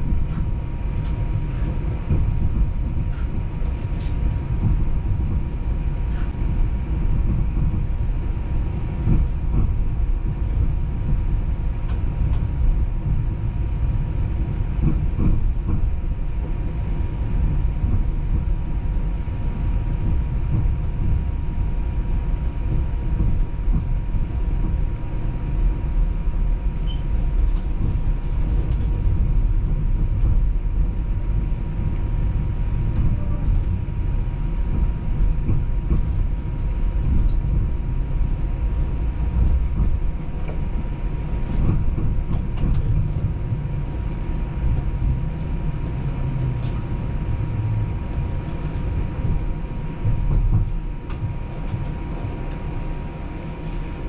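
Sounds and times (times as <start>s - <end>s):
streetcar rumbling on rails: 0.0s - 54.0s.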